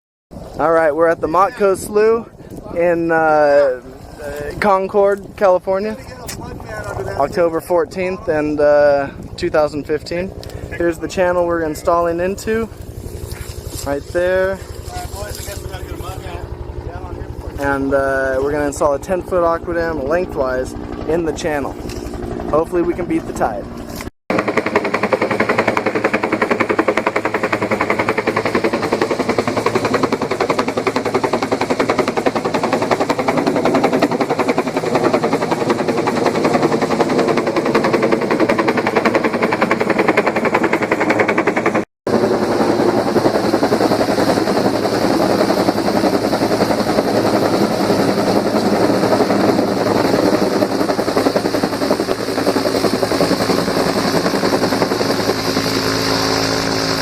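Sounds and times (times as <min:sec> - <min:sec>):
helicopter rotor blades chopping: 0:00.3 - 0:57.0.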